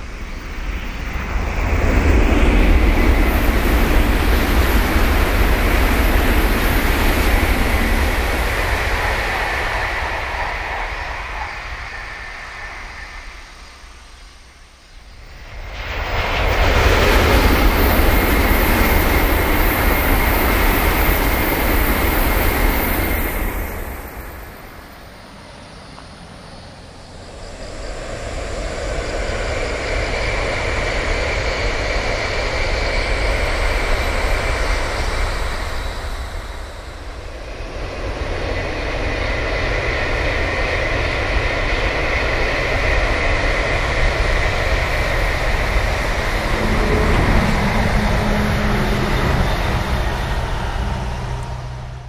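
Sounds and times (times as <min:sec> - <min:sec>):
high-speed train rushing past: 0:00.0 - 0:52.0.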